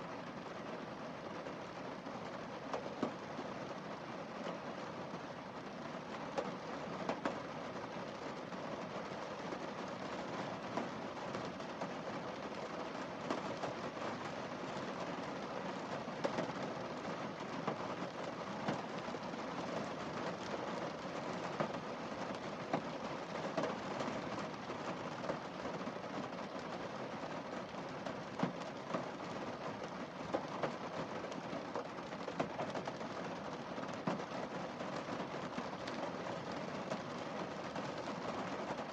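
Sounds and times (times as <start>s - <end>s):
rain pattering on windscreen: 0.0s - 38.9s.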